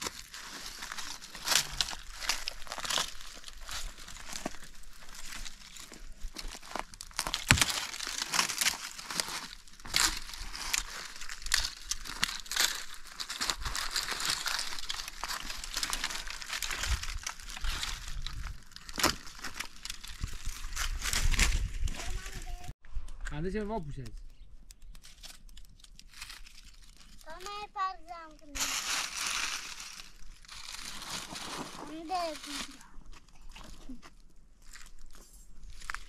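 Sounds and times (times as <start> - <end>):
crinkling and rustling: 0.0 - 22.7, 23.8 - 36.0.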